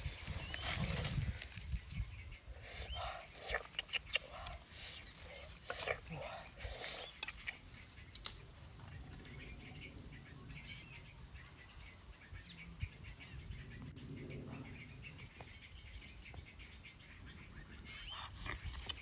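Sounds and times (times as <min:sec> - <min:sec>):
faint birds chirping: 0:00.0 - 0:19.0
low steady outdoor rumble: 0:00.0 - 0:19.0.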